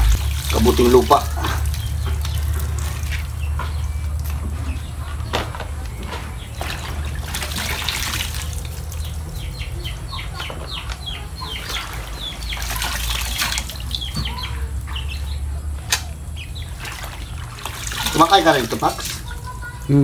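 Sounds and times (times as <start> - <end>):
water splashing in plastic basin: 0.0 - 10.1, 10.7 - 15.2, 15.8 - 19.9.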